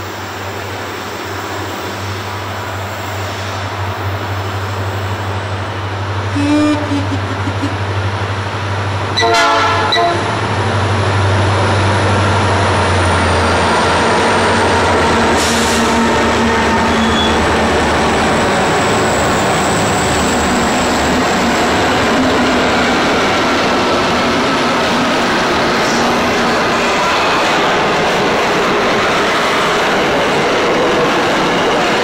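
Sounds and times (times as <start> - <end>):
diesel locomotive engine drone: 0.0 - 32.0
wheels rumbling on rails: 0.0 - 32.0.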